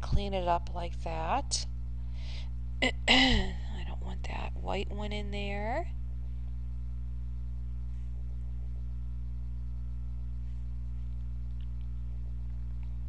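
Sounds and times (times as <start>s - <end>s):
low electrical hum: 0.0s - 13.0s
faint buzz: 1.0s - 13.0s.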